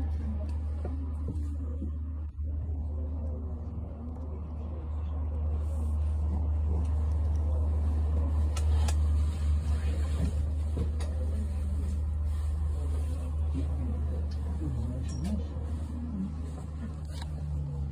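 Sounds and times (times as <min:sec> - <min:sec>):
tram rumble and hum: 0:00.0 - 0:17.9.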